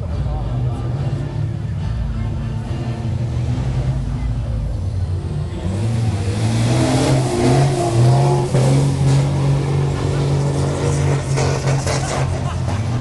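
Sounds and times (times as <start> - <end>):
truck diesel engine revving: 0.1 - 13.0.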